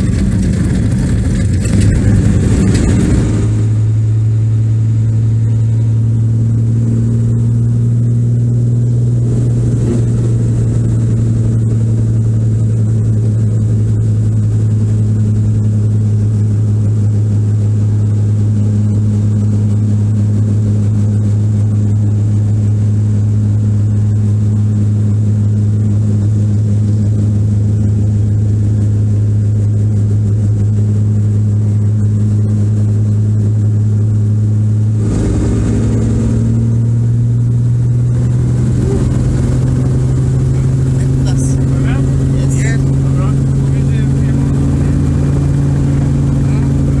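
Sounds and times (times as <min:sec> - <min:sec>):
helicopter engine and rotor drone: 0:00.0 - 0:47.0.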